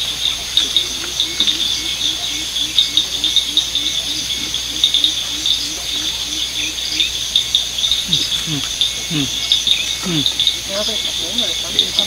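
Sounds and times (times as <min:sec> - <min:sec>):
crickets and insects chirping: 0:00.0 - 0:12.0
short falling calls: 0:00.0 - 0:12.0.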